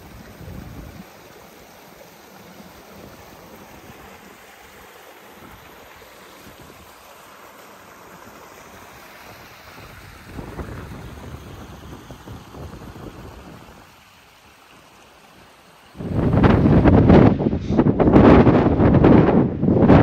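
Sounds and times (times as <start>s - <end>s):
stream running over rocks: 0.0s - 17.4s.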